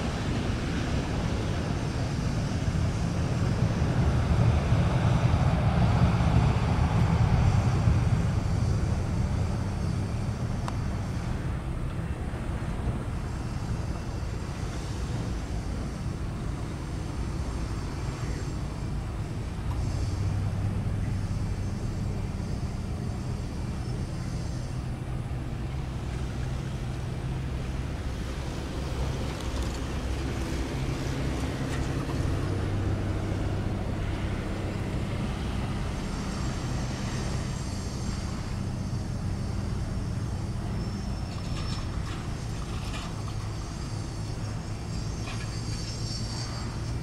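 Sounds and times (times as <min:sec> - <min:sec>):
jet engines humming: 0:00.0 - 0:47.0.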